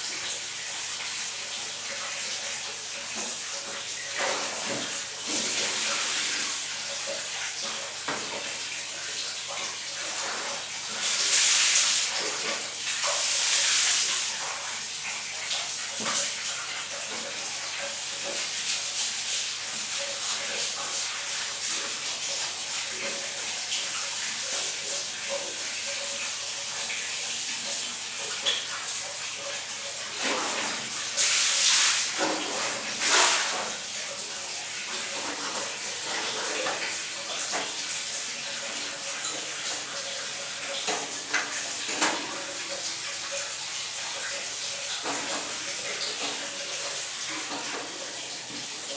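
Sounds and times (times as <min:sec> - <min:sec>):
water gushing: 0:00.0 - 0:48.9
water running: 0:00.0 - 0:48.9.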